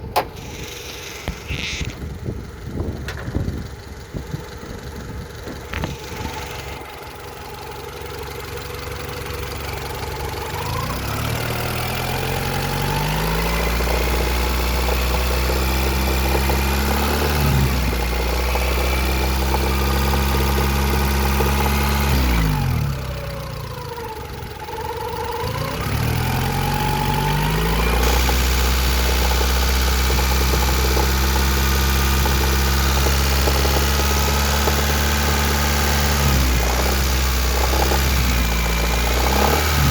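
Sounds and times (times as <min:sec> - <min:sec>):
engine revving with knocking: 0:05.4 - 0:39.9.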